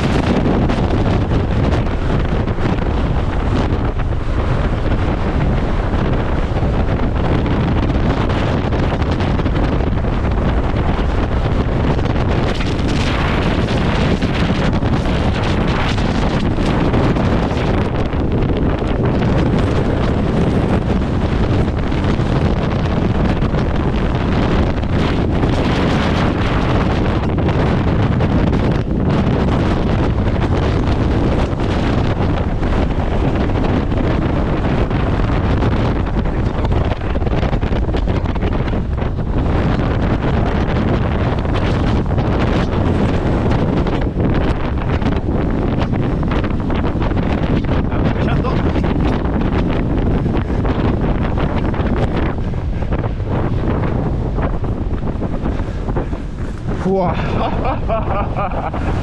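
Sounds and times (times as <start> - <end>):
strong wind buffeting microphone: 0.0 - 59.0.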